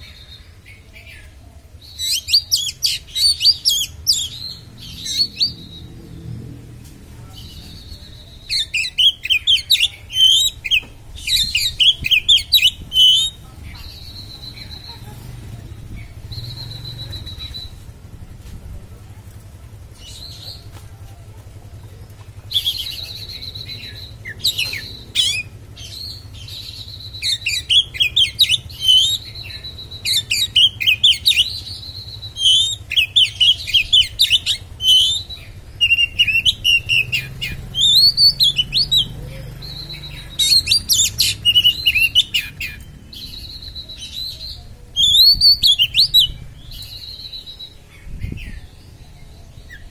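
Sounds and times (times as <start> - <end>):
bird singing: 0.0 - 18.2, 19.8 - 49.9.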